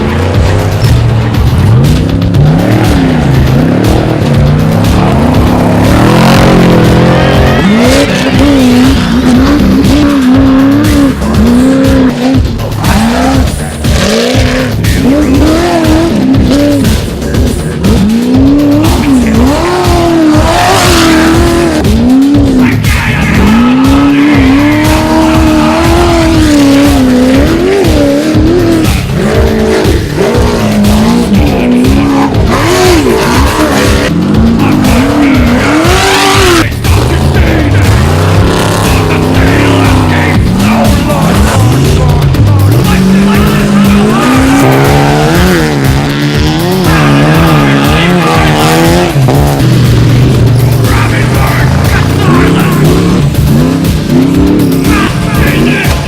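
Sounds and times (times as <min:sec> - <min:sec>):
engine revving hard: 0:00.0 - 0:56.0.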